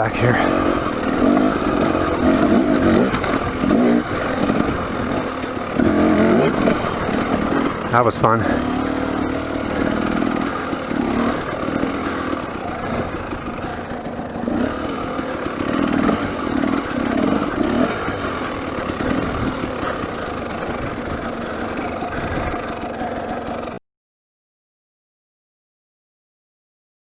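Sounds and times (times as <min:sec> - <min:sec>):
two-stroke dirt bike engine revving: 0:00.0 - 0:23.8.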